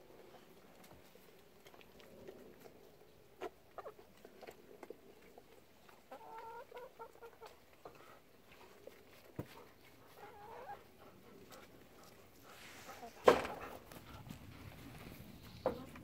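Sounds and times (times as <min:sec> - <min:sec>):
hens clucking: 0:02.5 - 0:16.0.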